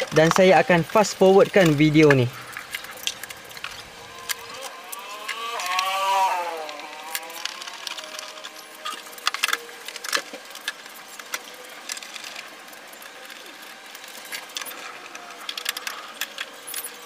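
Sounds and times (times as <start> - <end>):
clicks and knocks of parts: 0.0 - 6.0, 6.6 - 17.0
faint steady hum: 0.0 - 17.0.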